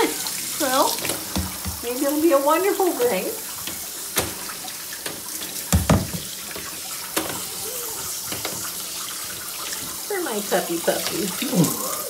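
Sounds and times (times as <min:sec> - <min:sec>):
shower sprayer hissing: 0:00.0 - 0:12.0.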